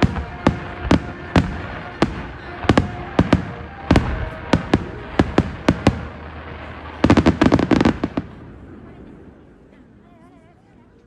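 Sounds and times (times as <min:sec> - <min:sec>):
fireworks bursting: 0:00.0 - 0:09.4.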